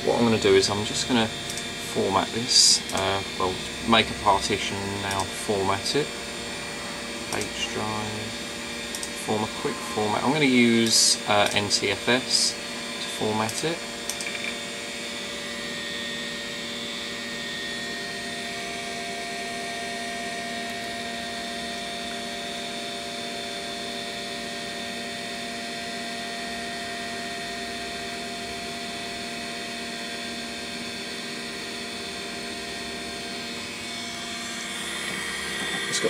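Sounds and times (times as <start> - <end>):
computer cooling fans: 0.0 - 36.0
hard drive whirring with whine: 0.0 - 36.0.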